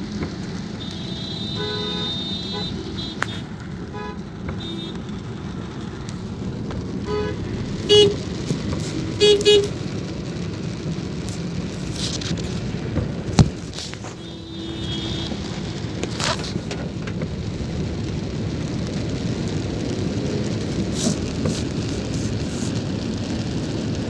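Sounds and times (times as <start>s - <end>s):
car tyres on wet road: 0.0s - 24.0s.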